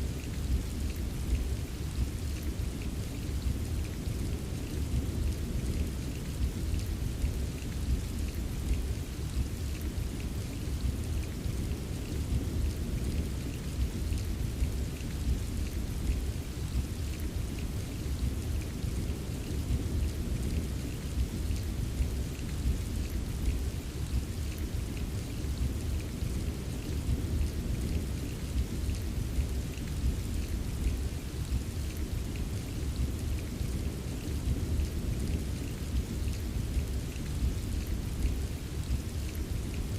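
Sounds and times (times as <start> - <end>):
patter of raindrops: 0.0 - 39.9
steady rainfall: 0.0 - 39.9.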